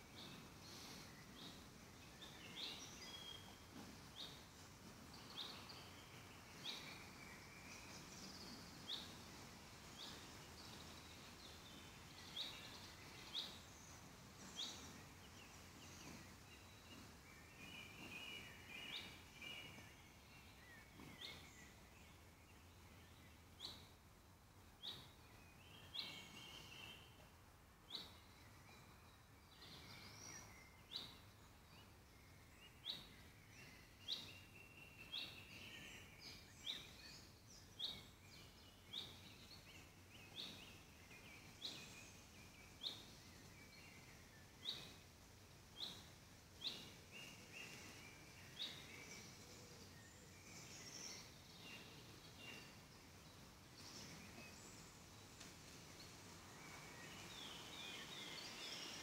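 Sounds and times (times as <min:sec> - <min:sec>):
bird warbling song: 0:00.0 - 0:24.0, 0:24.7 - 0:27.2, 0:27.8 - 0:45.1, 0:45.7 - 0:59.0.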